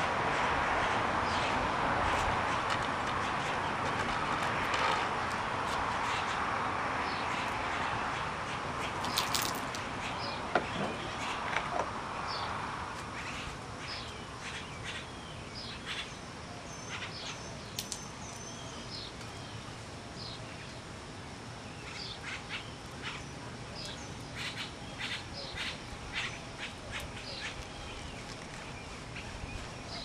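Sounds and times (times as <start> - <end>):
birds chirping: 0.8 - 20.9, 21.6 - 30.0.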